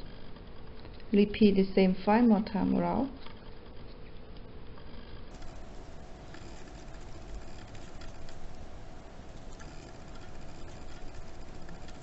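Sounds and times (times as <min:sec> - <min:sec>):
thin steady hum: 0:00.0 - 0:12.0.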